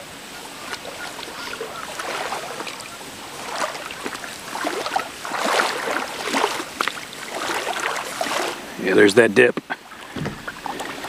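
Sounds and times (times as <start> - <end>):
water sloshing around wading legs: 0.0 - 8.8, 9.7 - 11.0.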